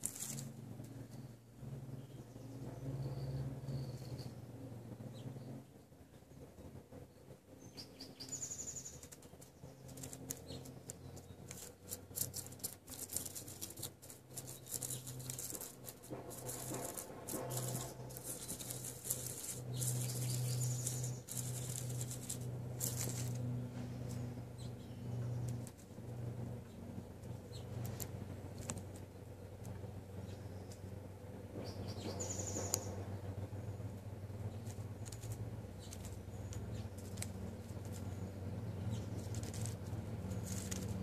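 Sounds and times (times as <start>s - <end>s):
rodent scratching in dry soil: 0.0s - 1.2s, 8.2s - 31.0s, 31.6s - 41.0s
steady low hum: 0.0s - 41.0s.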